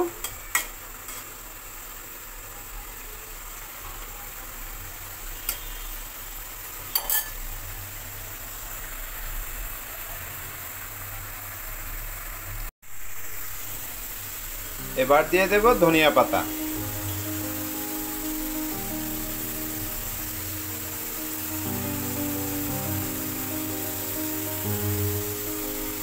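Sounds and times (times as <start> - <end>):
fish curry simmering and sizzling: 0.3 - 26.0.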